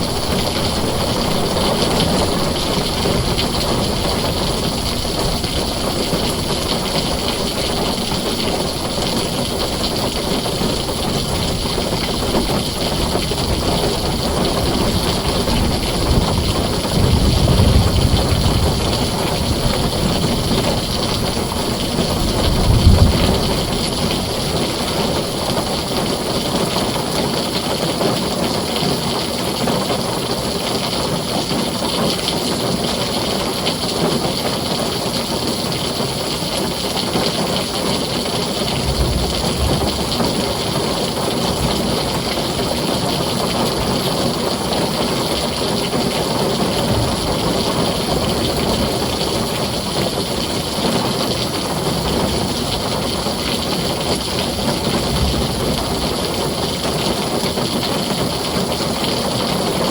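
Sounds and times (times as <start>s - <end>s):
low thunder rumbles: 0.0s - 28.1s, 37.2s - 59.9s
heavy rain on a tin roof: 0.0s - 59.9s.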